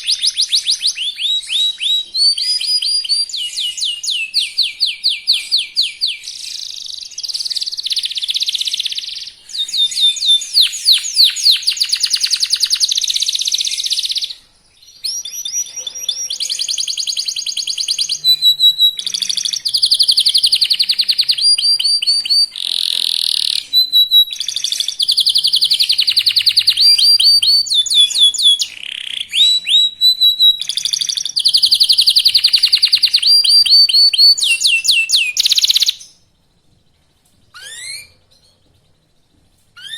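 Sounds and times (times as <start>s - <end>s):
canary singing trills: 0.0s - 36.3s, 37.5s - 39.0s.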